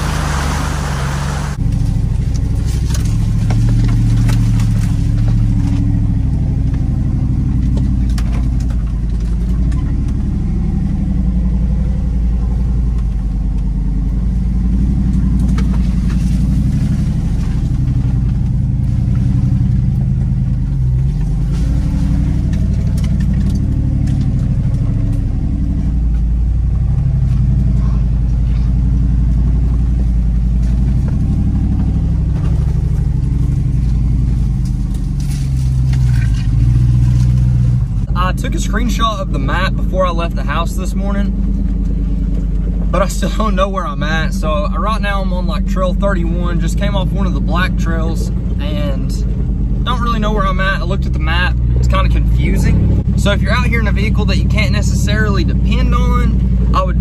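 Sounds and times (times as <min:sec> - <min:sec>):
engine running at low speed: 0:00.0 - 0:57.0.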